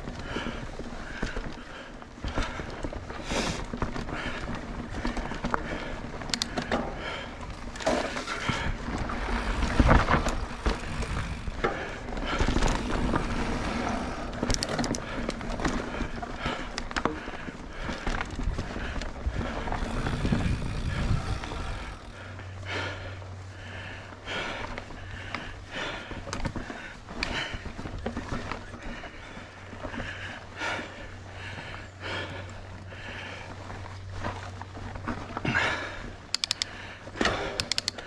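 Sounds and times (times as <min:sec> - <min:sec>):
bike tyres rolling over dirt: 0:00.0 - 0:37.5
steady low hum: 0:00.0 - 0:38.0.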